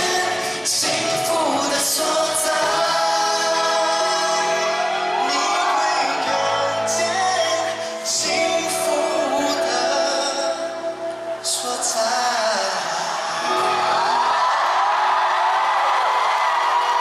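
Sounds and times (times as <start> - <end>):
live pop band playing: 0.0 - 14.5
singers singing: 0.0 - 14.9.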